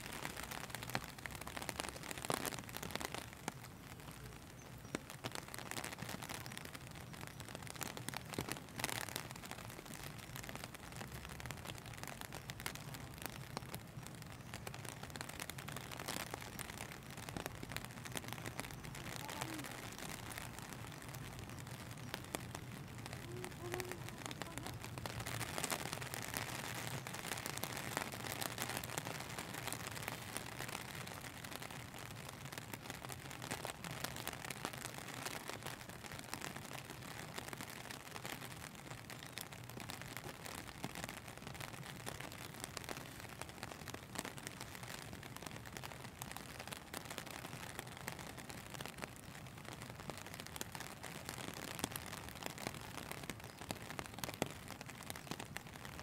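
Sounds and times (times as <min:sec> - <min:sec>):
steady rain patter: 0:00.0 - 0:56.0.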